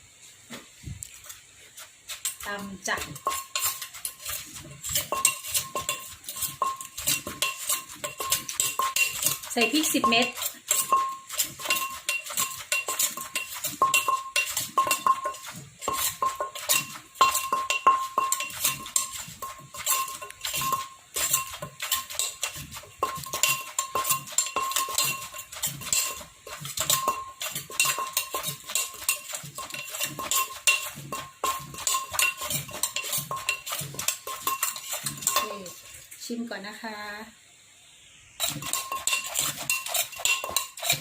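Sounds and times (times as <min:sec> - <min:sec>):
pestle pounding in a mortar: 0:01.8 - 0:36.0, 0:38.4 - 0:41.0.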